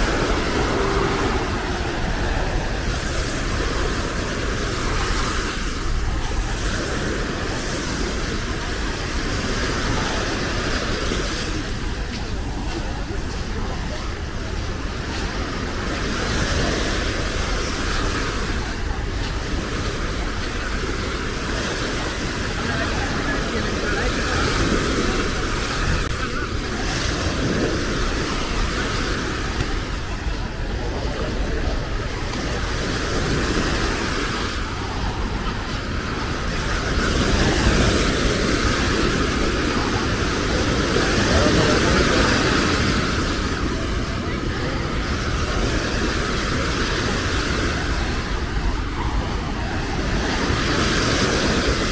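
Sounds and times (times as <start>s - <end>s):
murmur of voices: 0.0s - 51.9s
small waves breaking on sand: 0.0s - 51.9s
wind rumbling on microphone: 0.0s - 51.9s.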